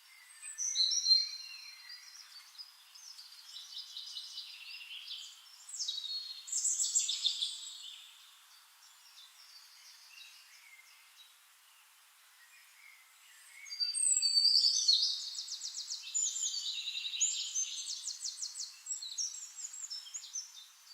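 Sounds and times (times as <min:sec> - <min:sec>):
songbirds singing and chirping: 0:00.0 - 0:20.9.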